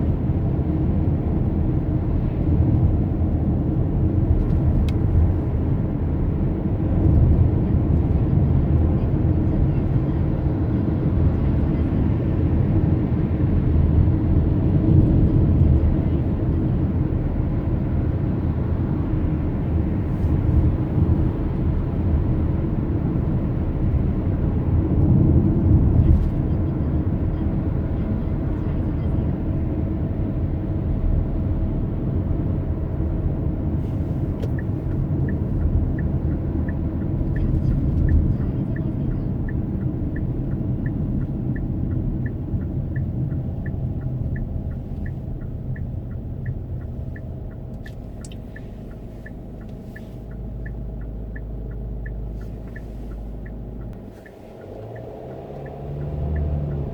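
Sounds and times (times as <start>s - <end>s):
road and engine rumble: 0.0s - 56.9s
turn signal ticking: 0.0s - 56.9s.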